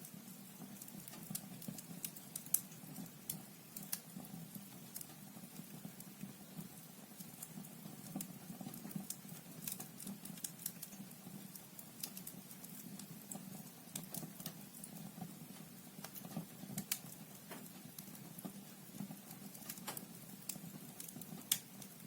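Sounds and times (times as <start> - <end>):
logs crackling and popping: 0.0 - 22.0.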